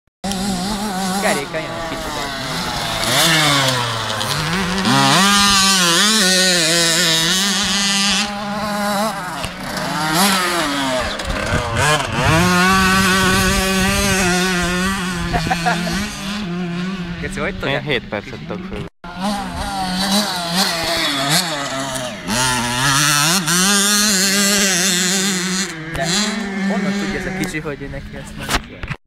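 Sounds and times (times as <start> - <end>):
motocross bikes revving past: 0.2 - 28.9.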